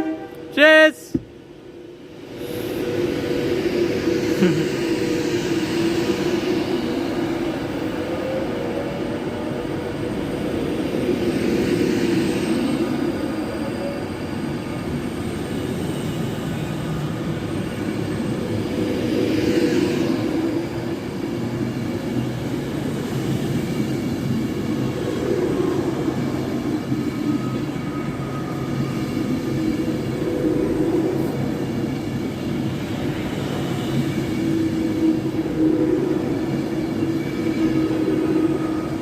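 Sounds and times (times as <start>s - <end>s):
train mechanical hum: 0.0s - 39.0s.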